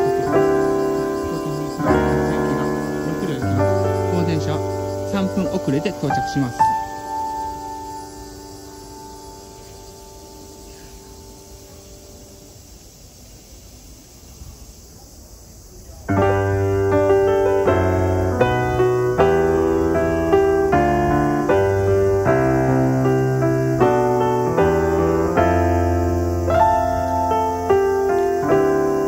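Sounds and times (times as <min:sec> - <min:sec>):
piano music: 0:00.0 - 0:12.6, 0:16.1 - 0:29.0.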